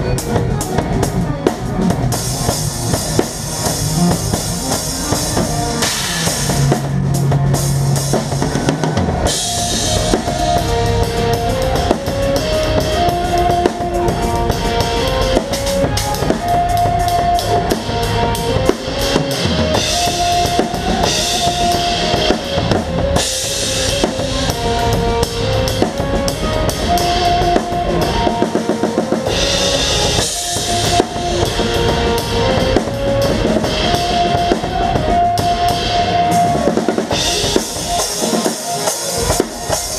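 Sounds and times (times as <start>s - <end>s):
drum kit: 0.0s - 39.9s
melodic line of held notes: 0.0s - 39.9s
rock band playing: 0.0s - 39.9s.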